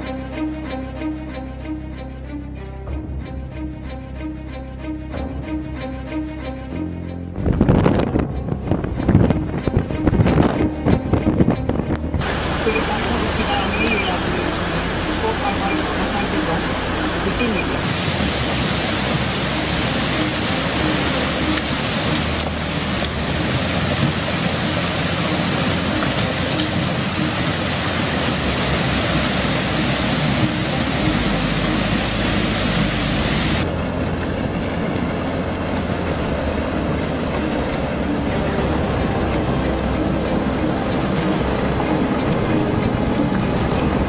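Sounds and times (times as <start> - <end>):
debris flow rushing rumble: 7.4 - 44.0.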